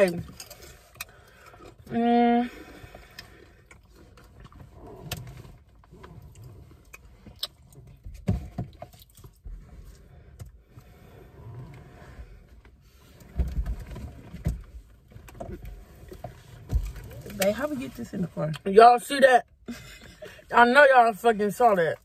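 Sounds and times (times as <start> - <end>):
rustling and scraping in a car: 0.0 - 22.0.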